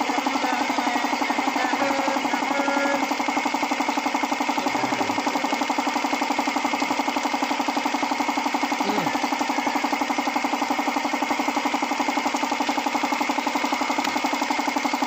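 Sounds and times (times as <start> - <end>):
engine idling with pulsing beat: 0.0 - 15.0.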